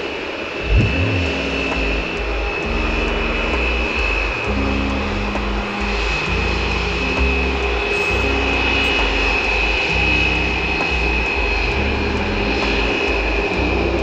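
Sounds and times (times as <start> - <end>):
jet engines whining: 0.0 - 14.0
low rumble: 0.6 - 14.0.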